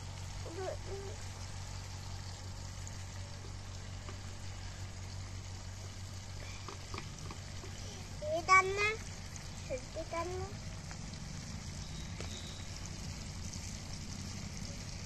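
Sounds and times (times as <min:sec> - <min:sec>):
curry sizzling and bubbling in a pan: 0:00.0 - 0:15.0
low steady hum: 0:00.0 - 0:15.0.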